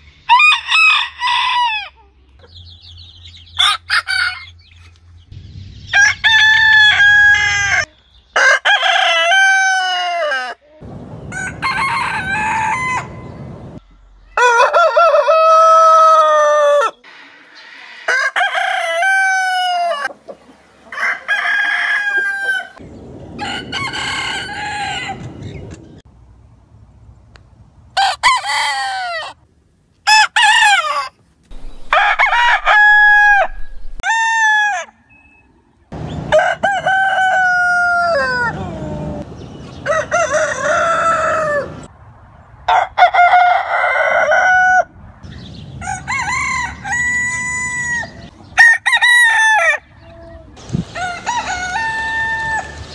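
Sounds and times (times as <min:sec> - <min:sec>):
roosters crowing: 0:00.2 - 0:02.1, 0:03.4 - 0:04.8, 0:05.9 - 0:26.0, 0:28.0 - 0:29.4, 0:30.1 - 0:41.9, 0:42.7 - 0:52.9.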